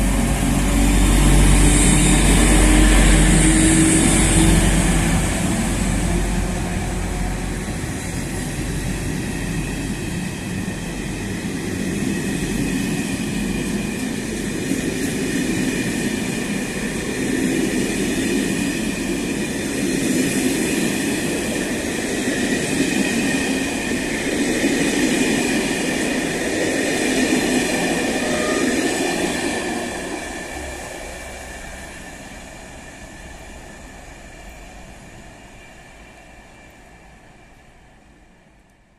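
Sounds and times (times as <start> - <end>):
passenger train rolling past: 0.0 - 38.9.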